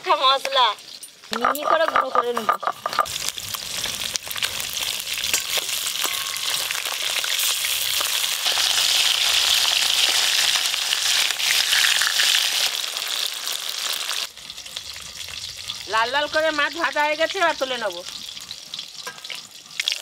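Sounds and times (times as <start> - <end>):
fish frying in oil: 0.0 - 20.0.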